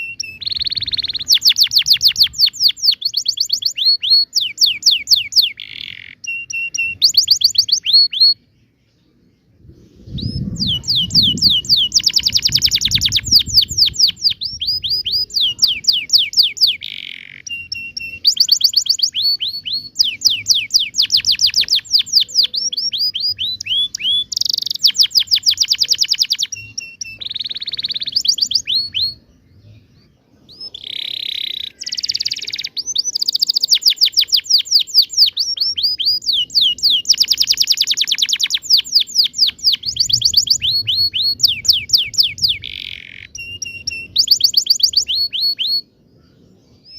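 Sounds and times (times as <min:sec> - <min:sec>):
canary singing: 0:00.0 - 0:09.3, 0:10.2 - 0:46.9.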